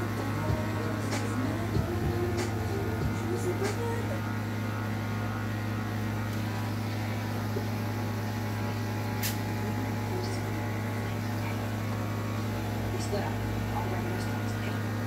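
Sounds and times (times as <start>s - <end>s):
electric clippers buzzing: 0.0s - 15.0s.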